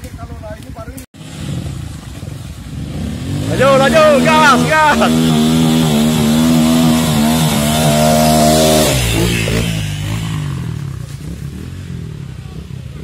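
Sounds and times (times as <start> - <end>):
motorcycle engine revving: 1.2 - 13.0.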